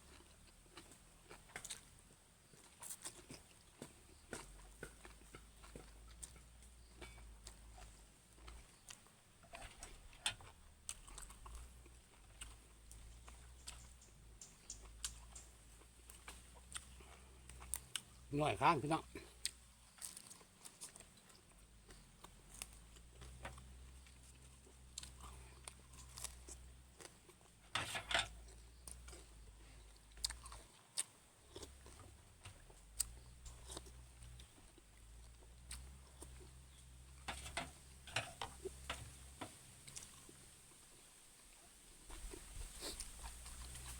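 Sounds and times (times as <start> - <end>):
chewing and crunching: 0.0 - 43.9.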